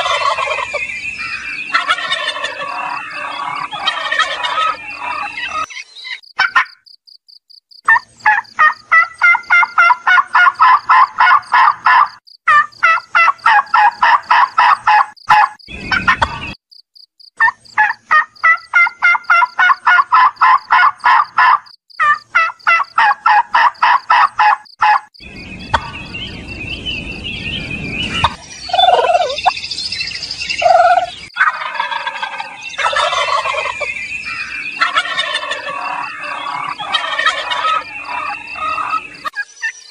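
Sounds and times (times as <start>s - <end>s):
turkey gobbling: 0.0s - 6.8s, 7.9s - 16.5s, 17.4s - 25.1s, 25.7s - 26.0s, 28.1s - 29.5s, 30.6s - 39.5s.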